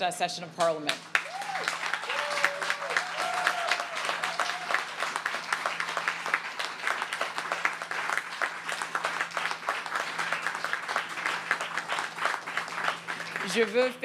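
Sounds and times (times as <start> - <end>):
crowd applauding: 1.0 - 14.0.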